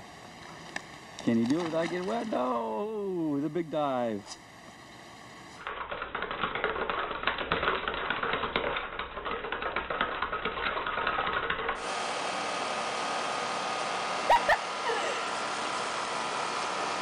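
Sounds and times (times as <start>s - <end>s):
air-conditioner fan whirring: 0.0s - 17.0s.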